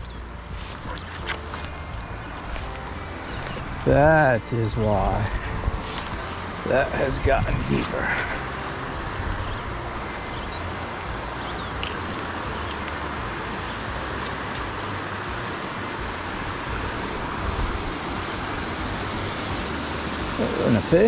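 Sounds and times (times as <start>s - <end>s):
brook running over stones: 0.0s - 21.0s
wind rumble on microphone: 0.0s - 21.0s.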